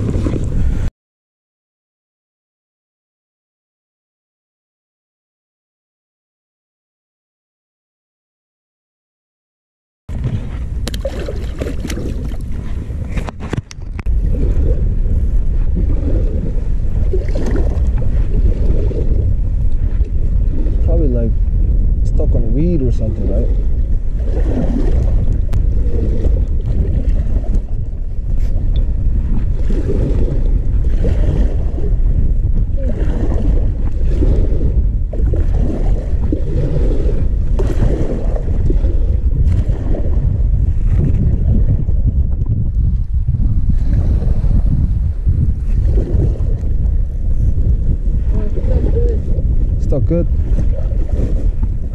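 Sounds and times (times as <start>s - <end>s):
water sloshing against kayak: 0.0s - 0.9s, 10.1s - 51.9s
wind buffeting microphone: 0.0s - 0.9s, 10.1s - 51.9s.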